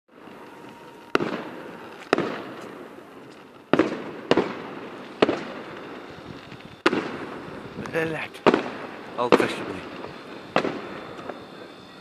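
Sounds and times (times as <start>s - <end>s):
fireworks bangs: 0.1s - 12.0s.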